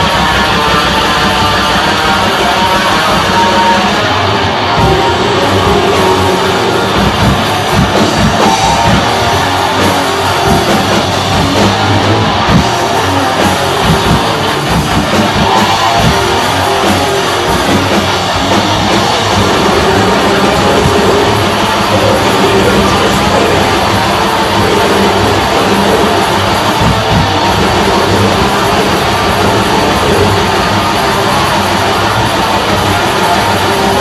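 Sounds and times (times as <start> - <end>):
death metal band playing live: 0.0 - 34.0.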